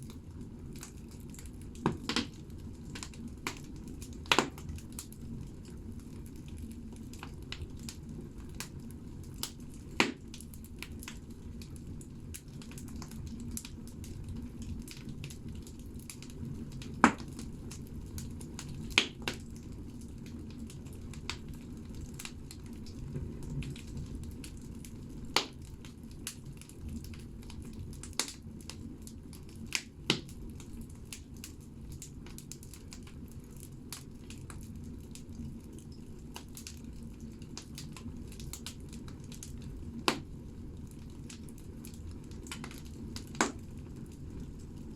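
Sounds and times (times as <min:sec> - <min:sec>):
fire crackles and pops: 0:00.0 - 0:44.9
fire rushing in a stove: 0:00.0 - 0:44.9.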